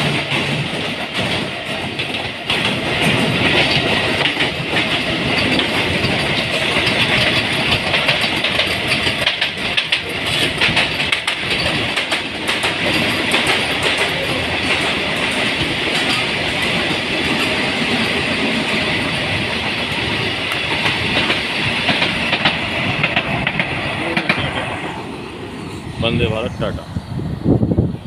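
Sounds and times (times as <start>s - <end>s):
train wheels clattering on rails: 0.0s - 26.4s.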